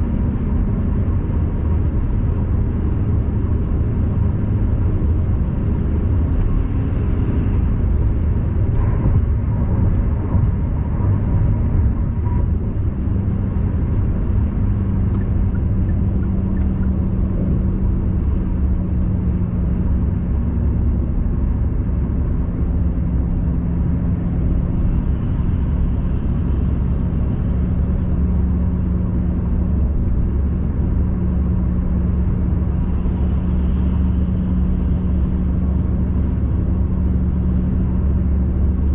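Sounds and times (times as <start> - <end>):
car tyre and engine rumble: 0.0 - 38.9
constant low hum: 0.0 - 38.9.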